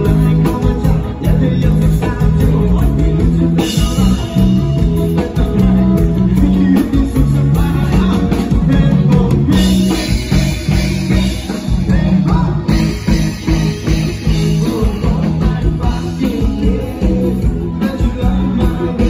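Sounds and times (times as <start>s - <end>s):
live rock band: 0.0s - 19.0s.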